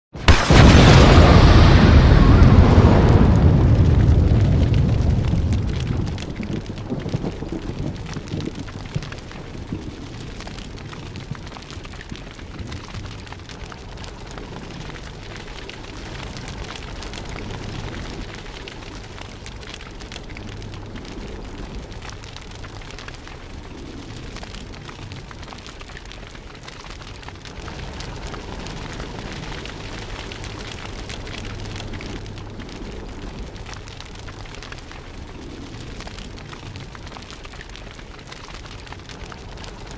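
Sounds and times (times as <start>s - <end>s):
fire crackling: 0.1s - 39.9s
low rumble of fire: 0.2s - 39.9s.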